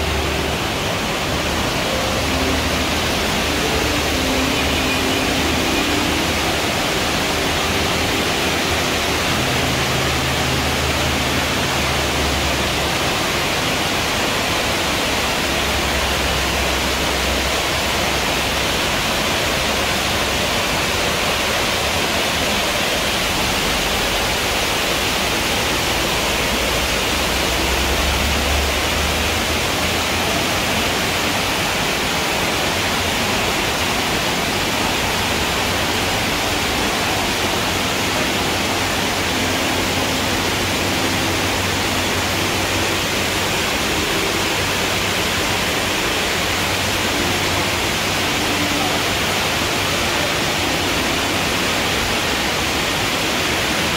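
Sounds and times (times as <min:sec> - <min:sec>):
water rushing over cascade: 0:00.0 - 0:53.9.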